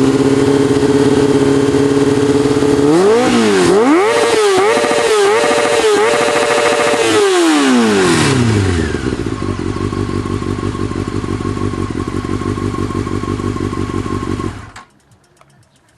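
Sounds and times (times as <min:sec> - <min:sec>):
motorcycle engine revving and idling: 0:00.0 - 0:15.9.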